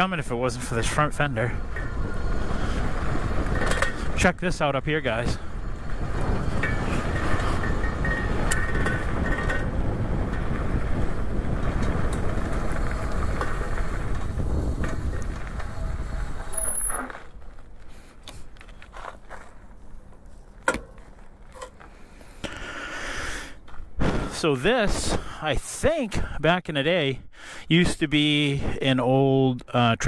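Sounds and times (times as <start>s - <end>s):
wind and tyre rush: 0.0s - 30.0s.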